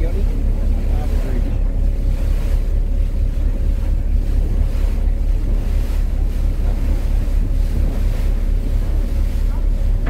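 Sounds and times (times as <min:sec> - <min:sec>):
water washing: 0:00.0 - 0:10.0.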